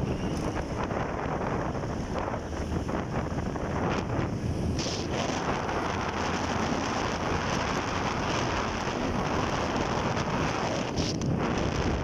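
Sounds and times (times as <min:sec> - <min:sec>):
wind on the microphone: 0:00.0 - 0:12.0.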